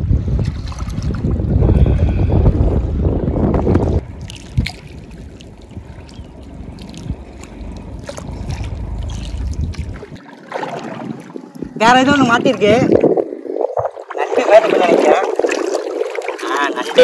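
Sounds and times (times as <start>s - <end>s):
wind rumbling on microphone: 0.0s - 17.0s
river water sloshing and splashing: 0.3s - 1.4s, 4.0s - 17.0s.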